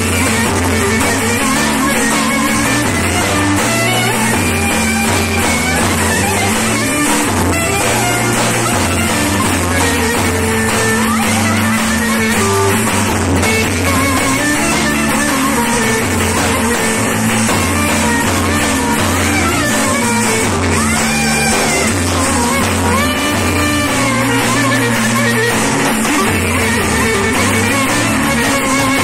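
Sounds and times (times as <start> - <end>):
loud dance music: 0.0 - 29.0.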